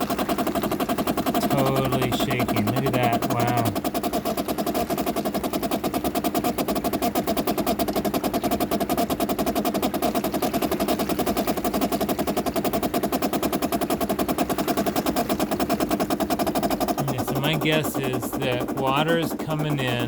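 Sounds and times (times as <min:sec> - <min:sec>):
dishwasher valve buzzing rattle: 0:00.0 - 0:20.0.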